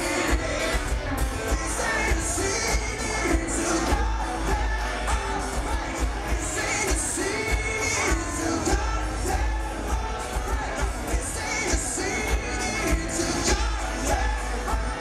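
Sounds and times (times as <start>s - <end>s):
heavy bass: 0.0s - 15.0s
pop-punk band playing live: 0.0s - 15.0s.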